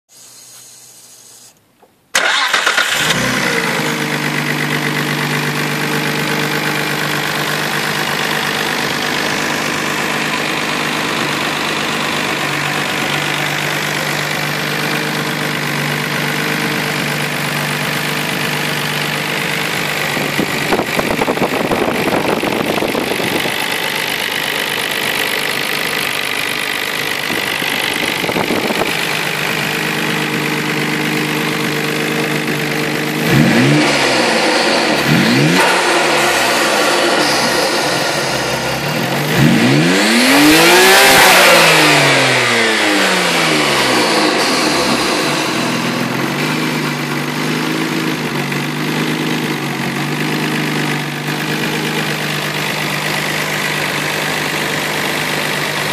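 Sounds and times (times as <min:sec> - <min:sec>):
car engine starting and idling: 0:01.8 - 0:55.9.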